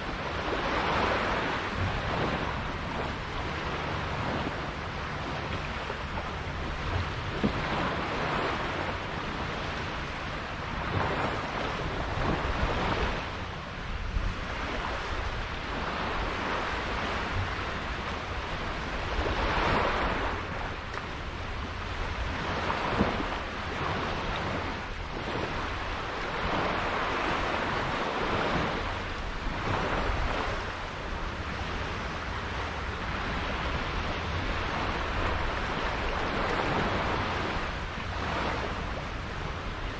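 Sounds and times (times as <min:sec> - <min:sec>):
water rushing past a boat: 0:00.0 - 0:39.9
wind buffeting the microphone: 0:00.0 - 0:39.9.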